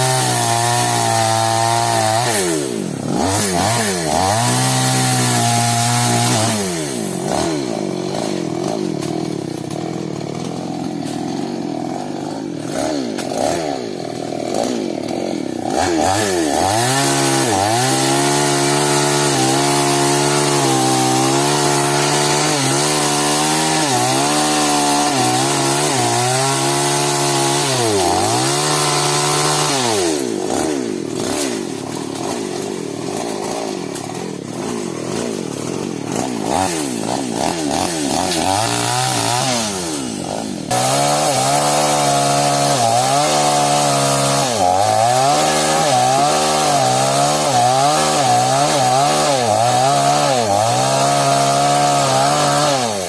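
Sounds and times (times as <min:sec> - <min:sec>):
chainsaw cutting a trunk: 0:00.0 - 0:53.0.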